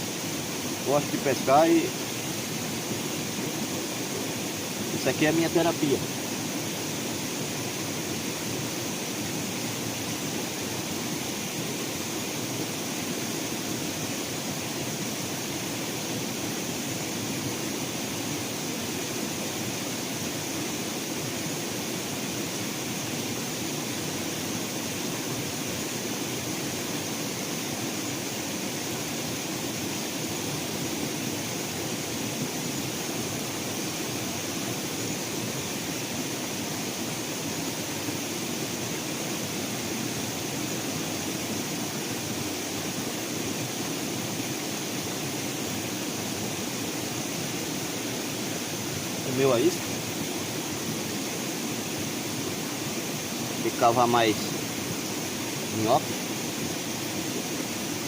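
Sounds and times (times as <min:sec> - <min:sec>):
steady outdoor background hiss: 0:00.0 - 0:58.0.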